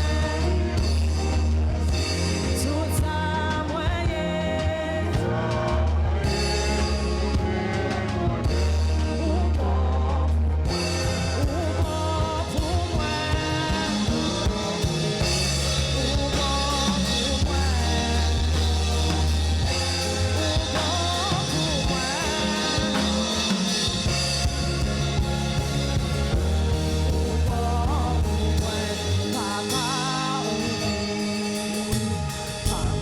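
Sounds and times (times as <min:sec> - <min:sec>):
band playing worship song: 0:00.0 - 0:33.0
person singing: 0:02.2 - 0:25.2, 0:27.0 - 0:33.0.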